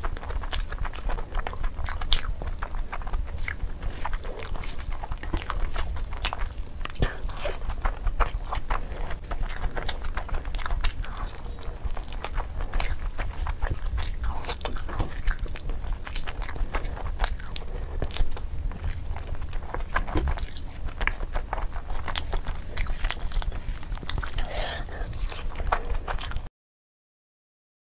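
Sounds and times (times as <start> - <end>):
chewing and lip-smacking: 0.0 - 26.5
low steady rumble: 0.0 - 26.5.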